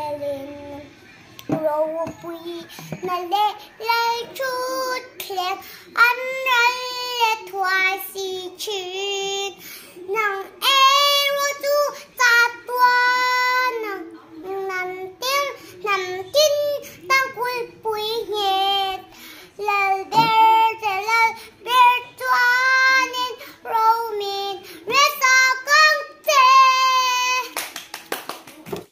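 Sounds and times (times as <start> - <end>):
girl singing unaccompanied: 0.0 - 27.7.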